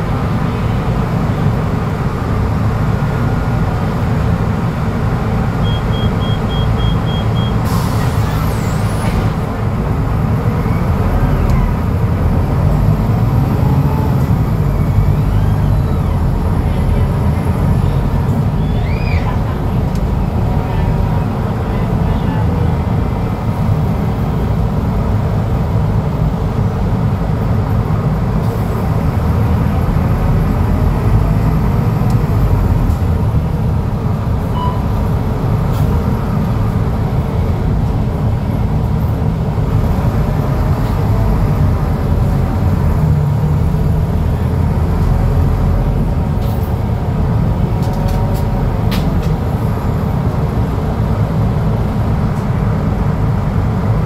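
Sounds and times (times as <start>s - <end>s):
bus diesel engine droning: 0.0s - 54.0s.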